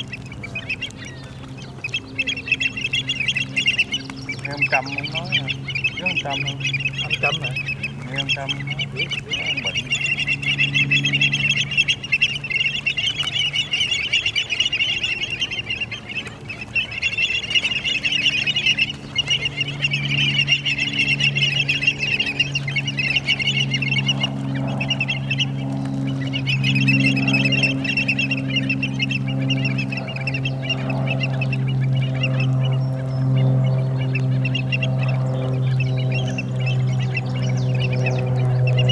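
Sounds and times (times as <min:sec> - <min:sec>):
flock of birds chattering: 0:00.0 - 0:38.9
steady low hum: 0:00.0 - 0:38.9.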